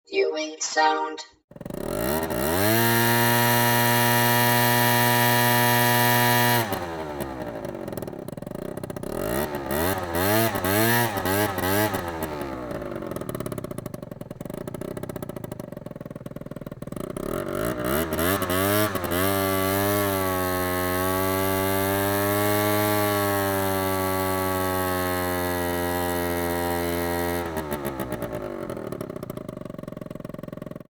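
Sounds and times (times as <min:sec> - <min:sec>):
scooter engine revving: 0:01.5 - 0:30.9.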